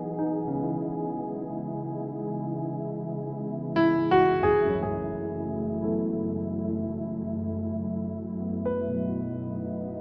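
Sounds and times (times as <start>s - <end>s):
synthesizer pad: 0.0s - 10.0s.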